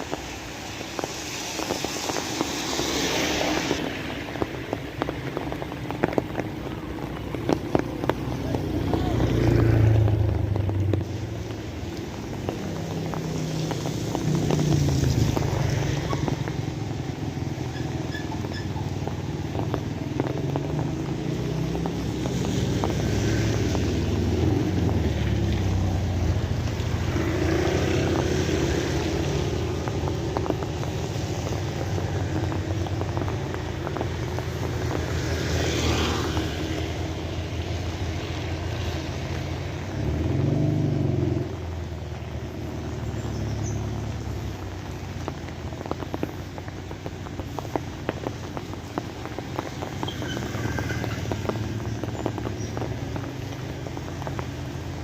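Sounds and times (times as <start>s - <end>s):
close drips and patters: 0.0s - 55.0s
passing vehicle engine rumble: 0.0s - 55.0s
steady rain: 0.0s - 55.0s.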